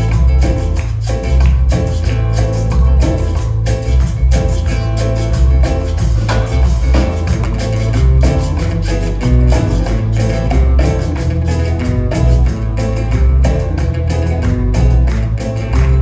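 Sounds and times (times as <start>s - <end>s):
latin american band music: 0.0s - 16.0s.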